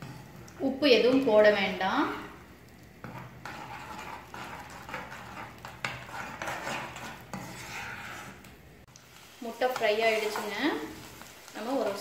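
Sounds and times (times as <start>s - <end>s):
spatula scraping eggs in pan: 0.0s - 1.3s, 2.1s - 12.0s
eggs frying in oil: 0.0s - 12.0s.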